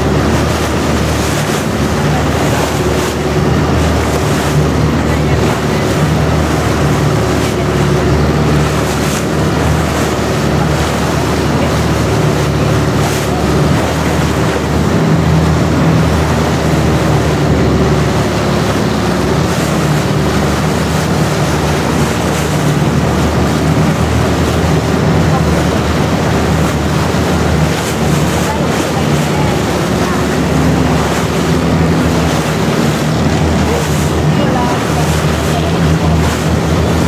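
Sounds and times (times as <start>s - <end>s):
boat engine droning: 0.0s - 37.0s
rush of wind and water: 0.0s - 37.0s.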